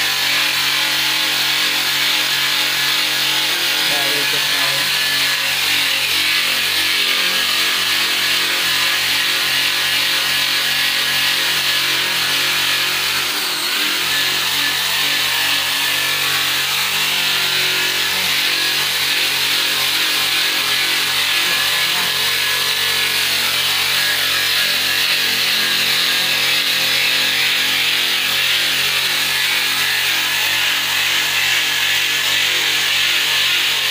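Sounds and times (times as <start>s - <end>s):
angle grinder sanding wood: 0.0s - 33.9s.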